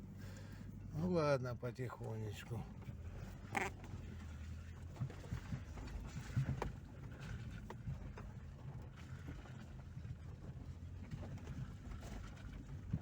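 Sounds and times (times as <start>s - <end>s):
low rumble of engine and road: 0.0s - 13.0s.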